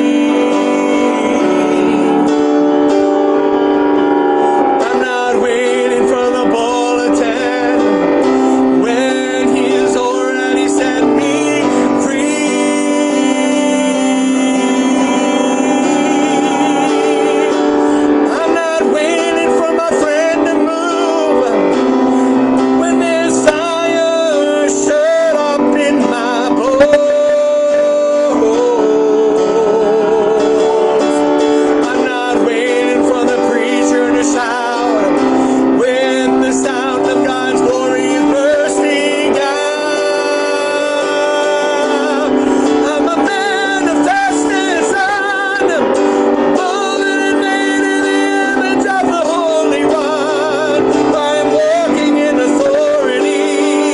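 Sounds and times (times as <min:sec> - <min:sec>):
instrumental accompaniment: 0:00.0 - 0:53.9
man singing slow worship song: 0:00.0 - 0:53.9
sustained keyboard chords: 0:00.0 - 0:53.9.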